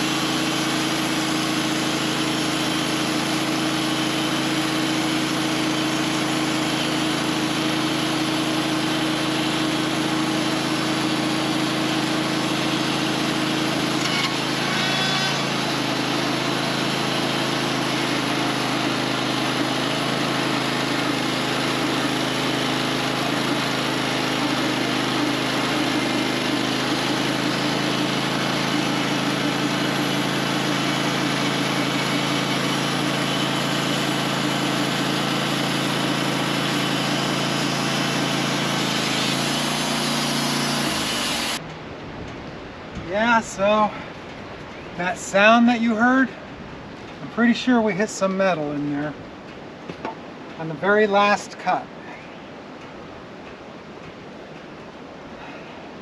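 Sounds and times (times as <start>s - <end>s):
sawmill engine sawing log: 0.0s - 41.7s, 42.6s - 56.0s.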